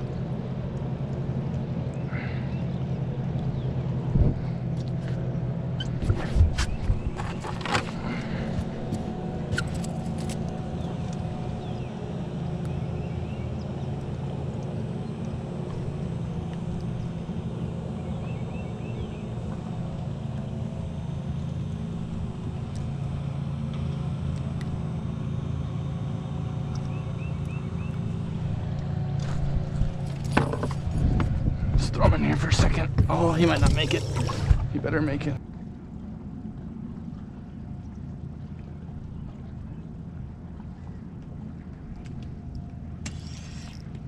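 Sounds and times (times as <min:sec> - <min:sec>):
boat motor idling: 0:00.0 - 0:44.0.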